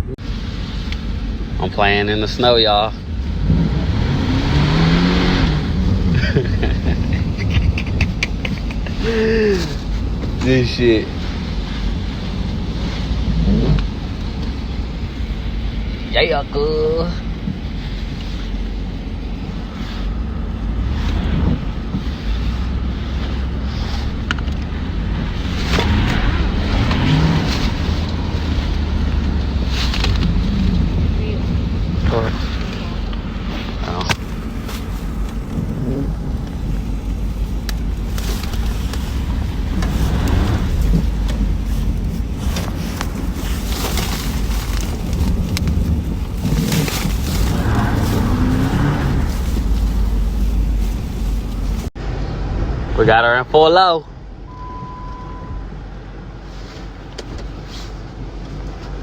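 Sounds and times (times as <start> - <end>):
car engine low rumble: 0.0 - 59.0
road noise: 0.0 - 59.0.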